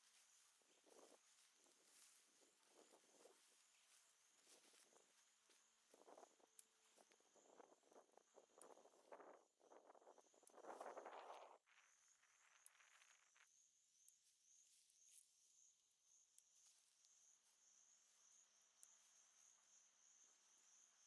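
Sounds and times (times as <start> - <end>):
faint insects trilling: 0.0 - 21.0.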